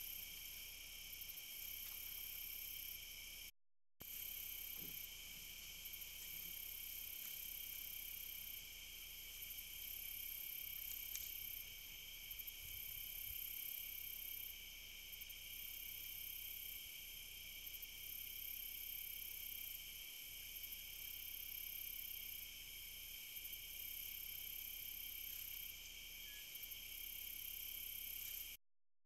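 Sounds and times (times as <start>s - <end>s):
crickets and insects chirping: 0.0s - 28.6s.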